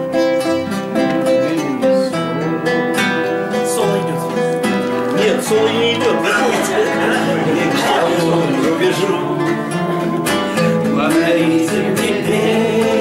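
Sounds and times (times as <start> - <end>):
classical guitars playing: 0.0 - 13.0.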